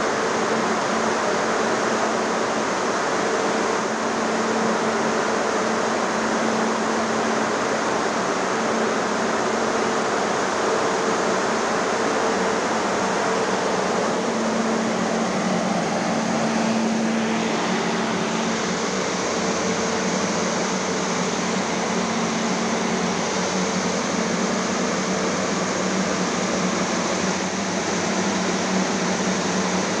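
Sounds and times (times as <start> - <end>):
blower fan rushing air: 0.0 - 30.0.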